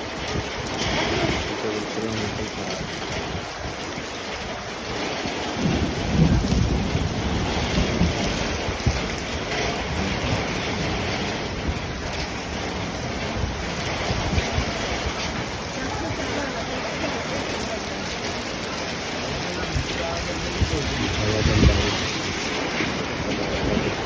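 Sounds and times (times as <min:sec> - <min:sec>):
heavy rain hissing: 0:00.0 - 0:24.0
low wind rumble: 0:00.0 - 0:24.0.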